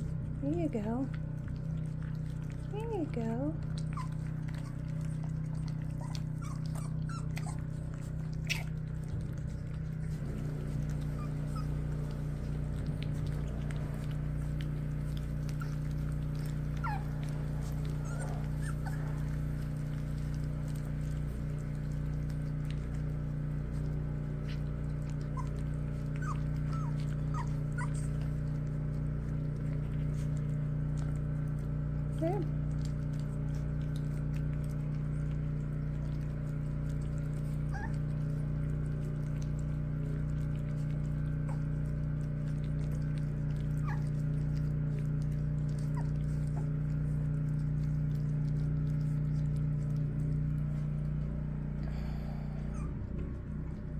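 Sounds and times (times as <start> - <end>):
puppy whimpers: 0.0 - 51.0, 51.8 - 53.2
puppies chewing and smacking: 0.0 - 53.9
steady low hum: 0.0 - 53.9.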